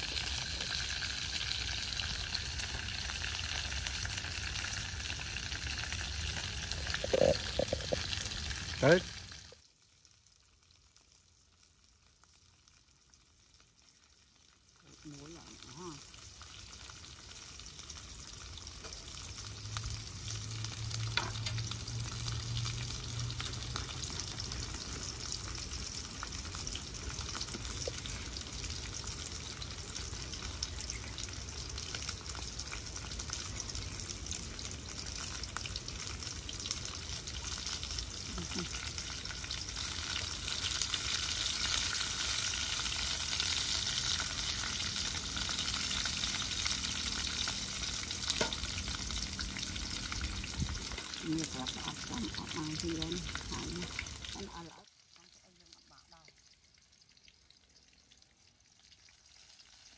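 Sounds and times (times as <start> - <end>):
food frying in hot oil: 0.0 - 59.9.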